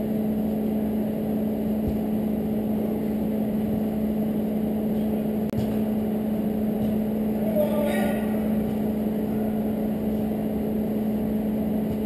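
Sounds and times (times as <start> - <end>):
dull rumble: 0.0 - 12.0
steady low hum: 0.0 - 12.0.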